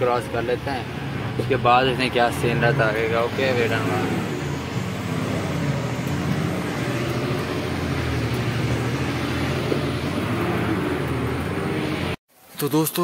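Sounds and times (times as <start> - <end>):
road noise on rough dirt track: 0.0 - 12.2
truck diesel engine pulling: 0.0 - 12.2.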